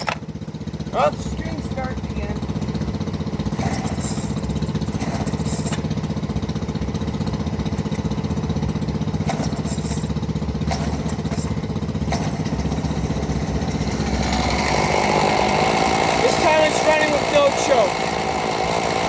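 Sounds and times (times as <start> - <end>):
chainsaw engine idling: 0.0 - 19.0.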